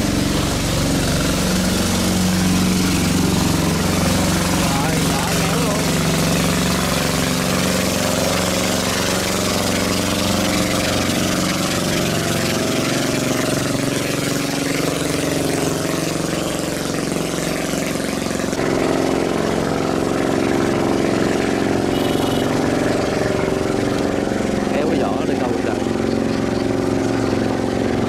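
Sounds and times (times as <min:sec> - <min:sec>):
small boat engine running: 0:00.0 - 0:28.0
water splashing against hull: 0:00.0 - 0:28.0.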